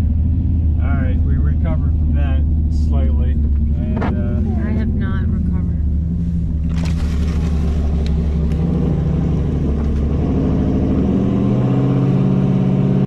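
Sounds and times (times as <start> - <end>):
pickup truck engine accelerating: 0.0 - 13.0.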